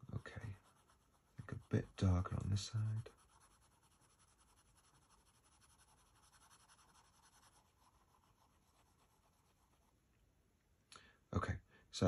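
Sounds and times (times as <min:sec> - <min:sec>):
pencil scratching on paper: 0:00.0 - 0:09.9.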